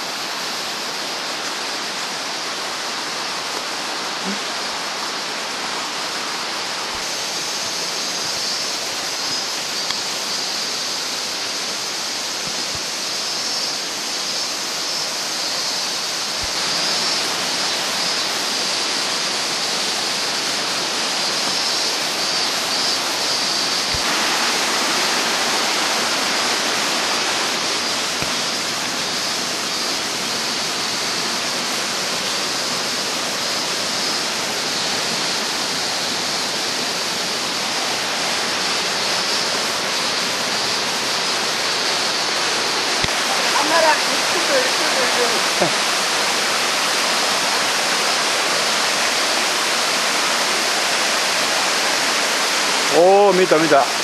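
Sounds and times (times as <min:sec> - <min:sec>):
stream and waterfall rushing: 0:00.0 - 0:54.0.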